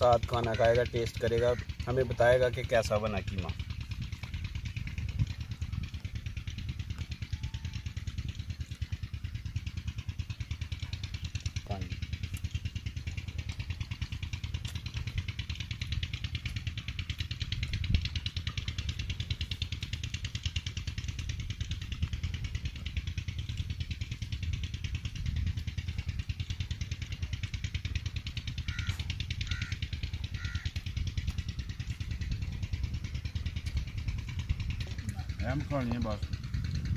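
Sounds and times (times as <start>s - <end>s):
engine running: 0.0s - 36.9s.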